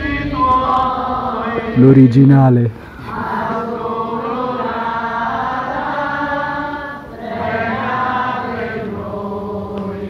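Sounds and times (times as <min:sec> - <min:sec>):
voices chanting held notes: 0:00.0 - 0:10.0.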